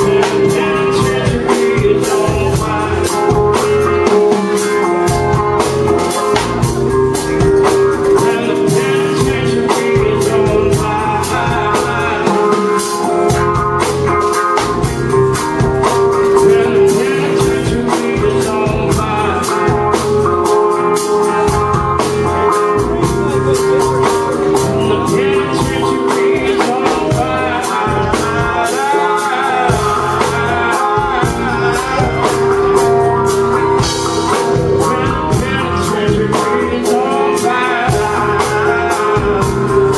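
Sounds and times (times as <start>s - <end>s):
drum kit beat: 0.0s - 39.9s
electric guitar: 0.0s - 39.9s
live band playing: 0.0s - 39.9s
man singing: 0.0s - 39.9s.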